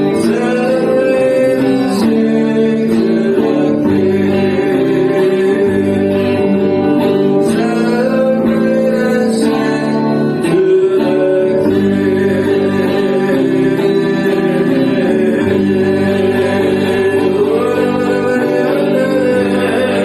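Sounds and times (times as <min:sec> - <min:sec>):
person singing: 0:00.0 - 0:20.0
strummed acoustic guitar: 0:00.0 - 0:20.0.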